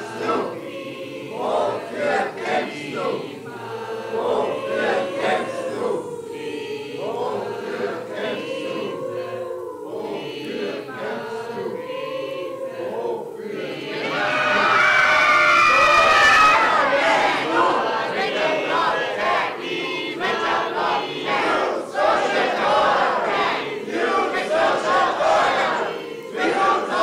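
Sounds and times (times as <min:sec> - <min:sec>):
choir singing: 0:00.0 - 0:27.0.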